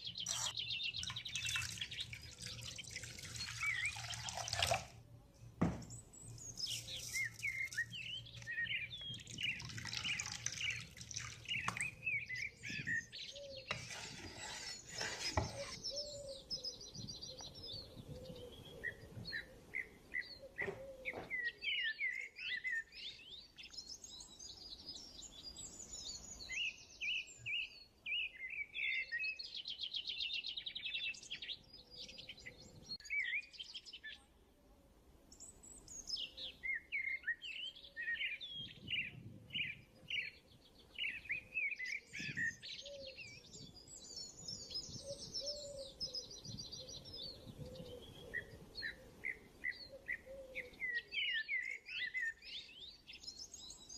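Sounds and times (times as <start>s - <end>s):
birds chirping and singing: 0.0s - 4.8s, 5.6s - 34.2s, 35.4s - 53.9s.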